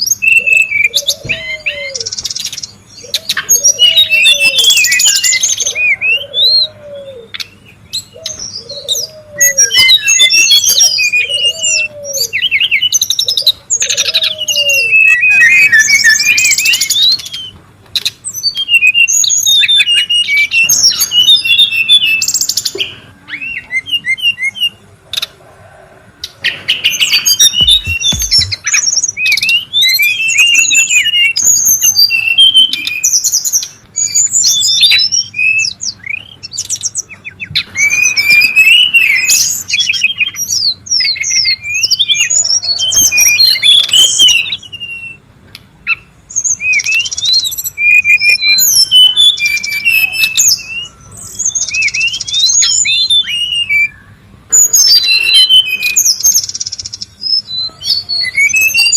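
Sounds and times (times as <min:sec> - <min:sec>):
bird singing chirps and trills: 0:00.0 - 0:25.4, 0:26.2 - 0:58.9.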